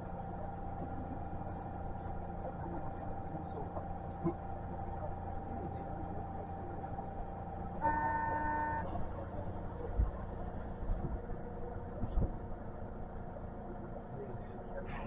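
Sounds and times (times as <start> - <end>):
train rumbling inside car: 0.0 - 15.0.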